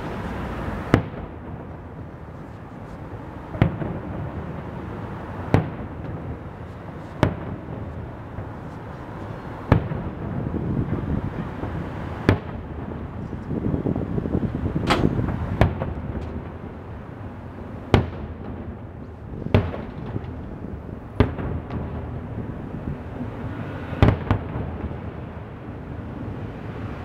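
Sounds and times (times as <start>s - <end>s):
continuous background noise: 0.0s - 27.0s.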